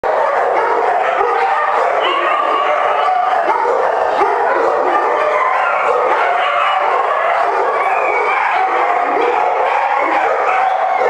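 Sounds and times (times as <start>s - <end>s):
many dogs barking and howling: 0.0s - 11.0s.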